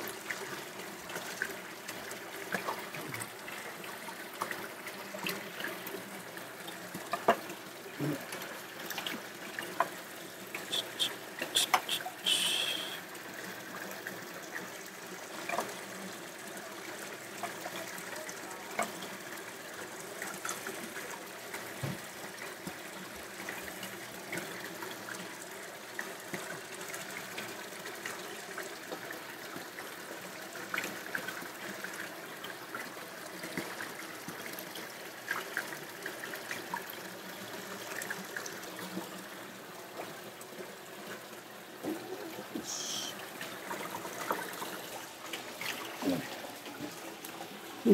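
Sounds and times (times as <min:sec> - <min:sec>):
tap water running into basin: 0:00.0 - 0:47.9.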